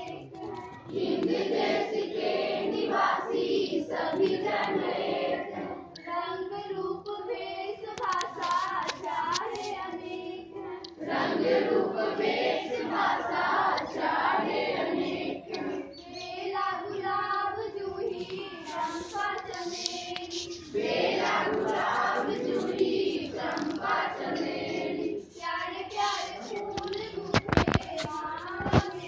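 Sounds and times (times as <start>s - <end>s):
children singing in unison: 0.0s - 29.0s.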